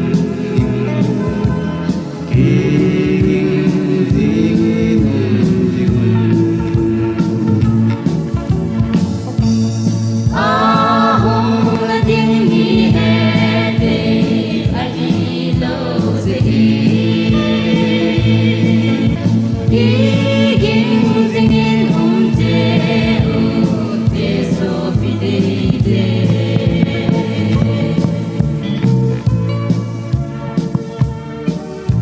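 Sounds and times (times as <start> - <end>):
group singing gospel song: 0.0 - 8.0, 10.3 - 28.9
sustained bass notes: 0.0 - 32.0.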